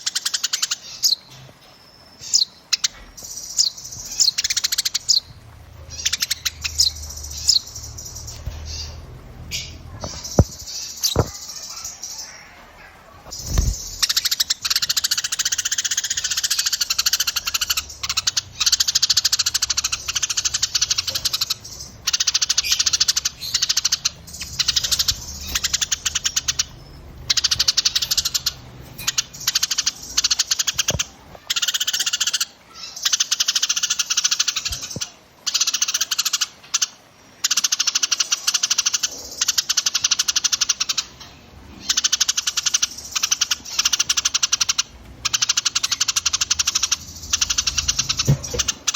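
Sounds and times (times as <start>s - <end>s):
songbirds rapid trilling: 2.2s - 48.9s.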